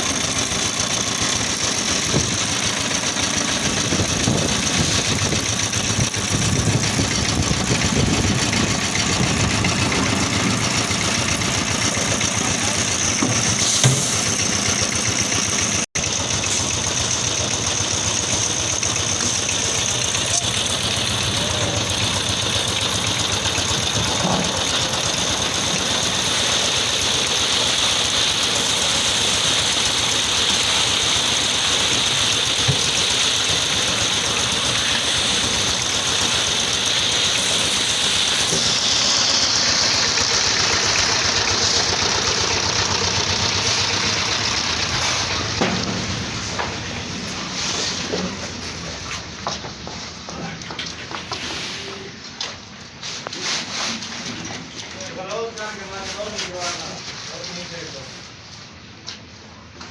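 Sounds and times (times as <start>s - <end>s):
pump engine running: 0.0s - 52.8s.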